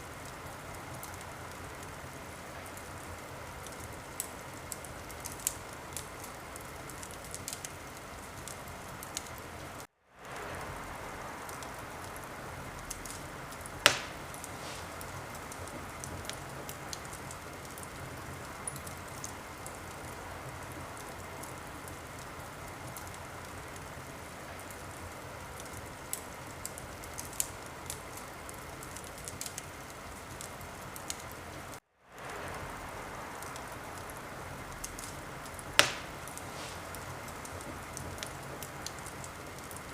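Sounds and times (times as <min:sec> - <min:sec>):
wood fire crackling: 0:00.0 - 0:39.9
fire pops: 0:00.1 - 0:31.5, 0:32.2 - 0:39.9.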